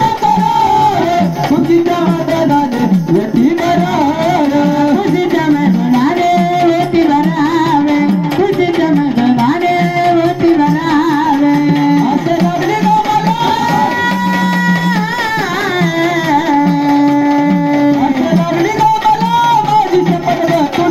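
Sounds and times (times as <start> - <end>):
hand drum rhythm: 0.0 - 20.9.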